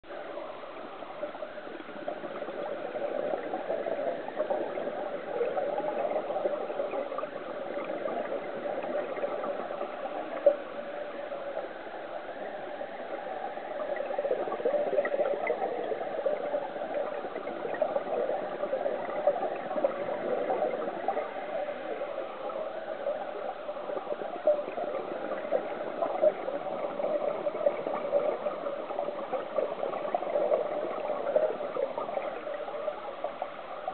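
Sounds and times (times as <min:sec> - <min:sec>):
underwater gurgling hiss: 0:00.2 - 0:33.9.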